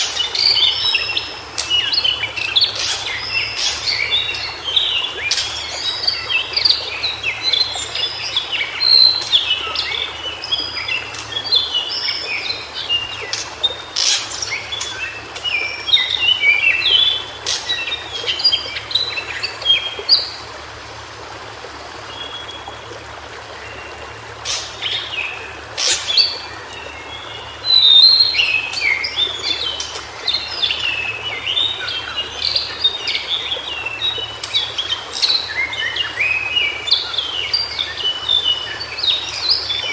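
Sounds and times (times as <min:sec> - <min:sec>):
bird singing high warbling phrases: 0:00.0 - 0:20.4, 0:24.8 - 0:39.9.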